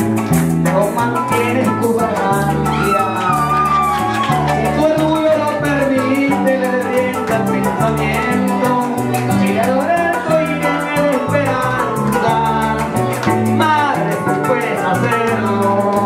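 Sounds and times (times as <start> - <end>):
cuatro plucking chords: 0.0 - 16.0
maracas rattling: 0.0 - 16.0
walking bass guitar: 0.0 - 16.0.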